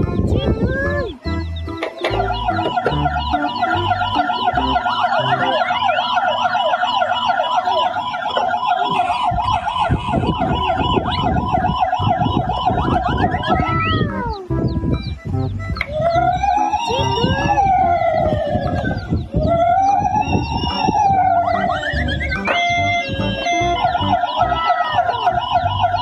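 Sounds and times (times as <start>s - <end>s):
toy siren wailing: 2.0s - 14.6s, 15.7s - 26.0s.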